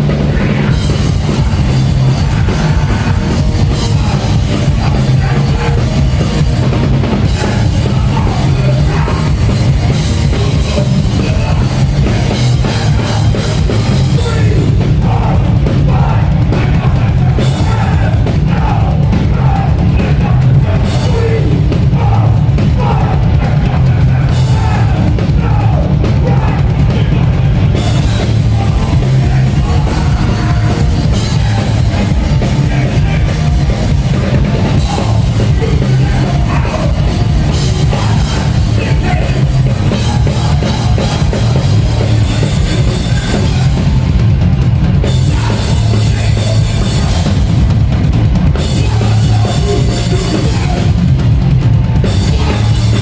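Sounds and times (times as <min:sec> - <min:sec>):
shouted vocals: 0:00.0 - 0:44.0
driving drums: 0:00.0 - 0:53.0
hardcore punk band playing live: 0:00.0 - 0:53.0.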